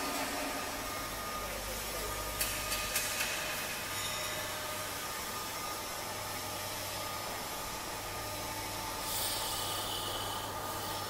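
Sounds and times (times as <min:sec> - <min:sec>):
faint steady whine: 0:00.0 - 0:11.0
roll forming machine humming: 0:00.0 - 0:11.0.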